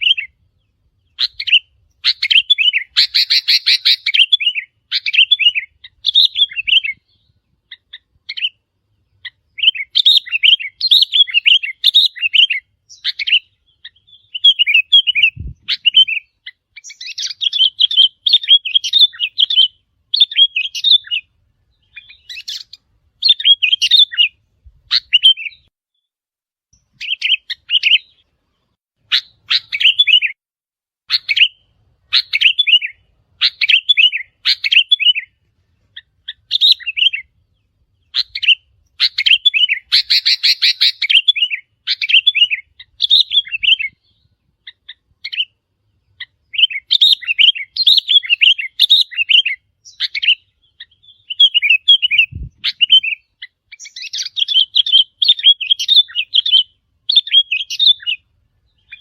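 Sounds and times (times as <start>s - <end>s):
bird chirping song: 0.0s - 26.1s, 26.7s - 30.4s, 31.0s - 59.0s.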